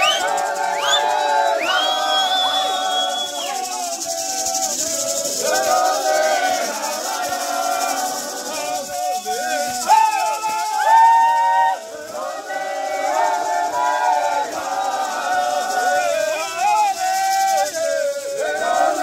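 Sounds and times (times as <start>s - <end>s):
group of voices chanting: 0.0s - 19.0s
maracas shaking: 0.0s - 19.0s.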